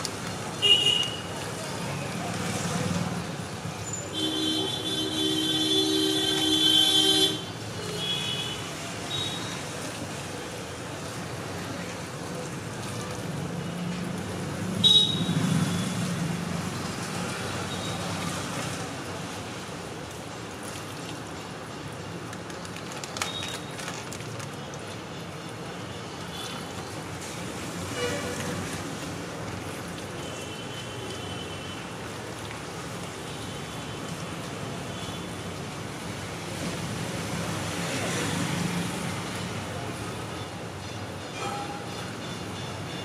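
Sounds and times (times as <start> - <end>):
street traffic noise: 0.0 - 43.0.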